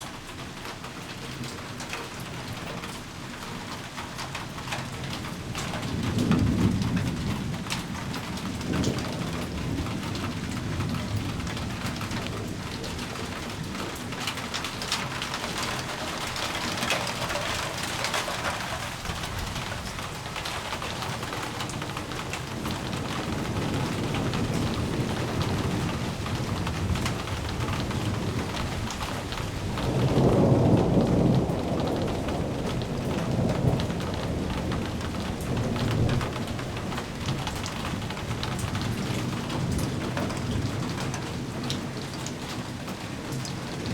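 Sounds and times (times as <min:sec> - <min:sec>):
steady rain falling: 0:00.0 - 0:43.9
low thunder rumbling: 0:04.3 - 0:43.9.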